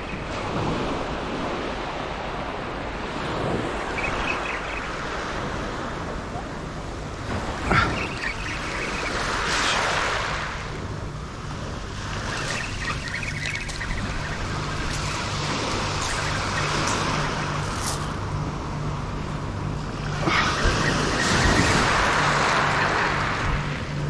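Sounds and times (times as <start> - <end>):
waves washing over shingle: 0.0 - 19.2, 20.0 - 24.0
steady low hum: 0.0 - 24.0.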